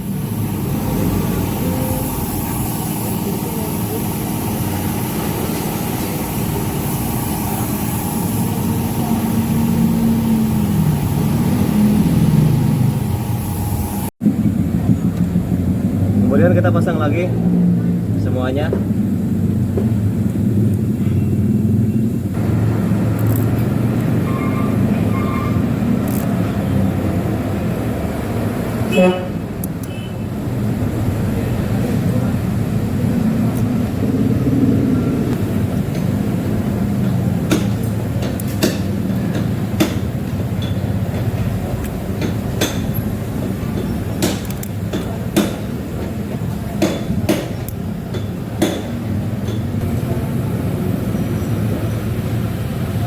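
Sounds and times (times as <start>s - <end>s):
low mechanical rumble: 0.0s - 53.0s.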